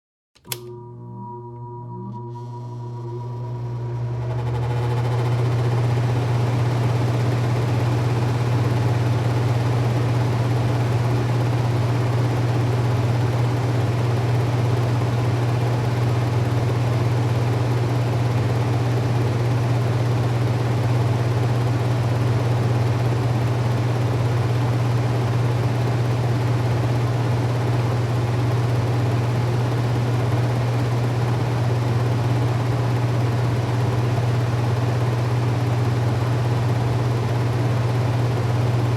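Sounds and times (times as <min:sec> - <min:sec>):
extractor fan running: 0:00.4 - 0:38.9.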